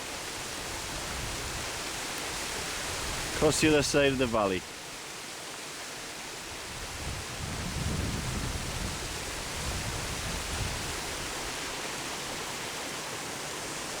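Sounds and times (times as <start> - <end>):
waterfall rushing: 0.0 - 7.8, 8.5 - 14.0.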